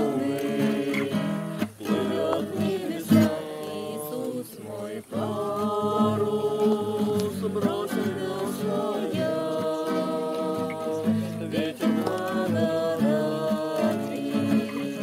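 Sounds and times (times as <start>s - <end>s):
acoustic guitar plucked: 0.0s - 15.0s
group singing together: 0.0s - 15.0s.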